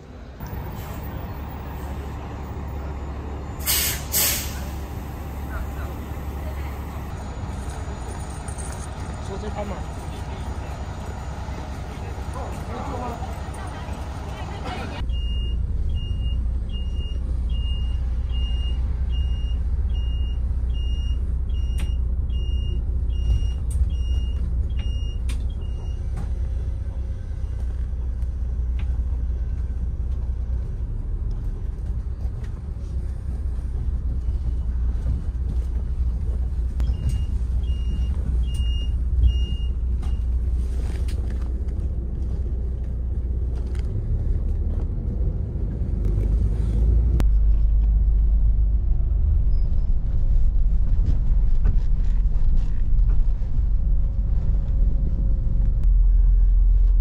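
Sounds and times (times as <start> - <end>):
coach diesel engine rumble: 0.0 - 57.0.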